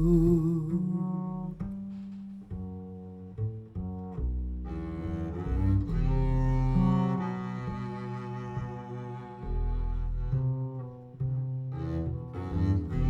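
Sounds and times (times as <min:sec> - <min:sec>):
moving bass line: 0:00.0 - 0:13.0.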